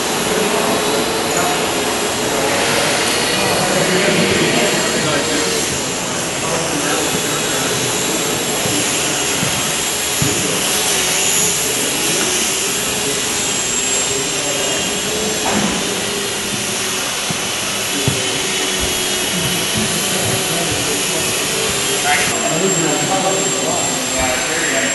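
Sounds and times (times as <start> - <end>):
model airplane motor buzzing: 0.2 - 22.4.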